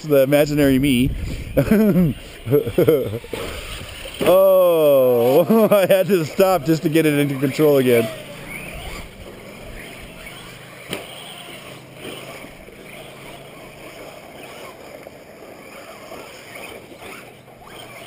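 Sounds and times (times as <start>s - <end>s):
rc car motors whining: 0.0s - 18.0s.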